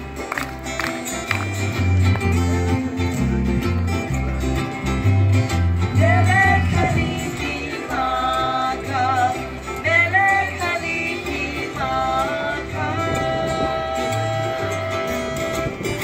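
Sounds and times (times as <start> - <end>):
bass line: 0.0 - 16.0
strummed acoustic guitar: 0.0 - 16.0.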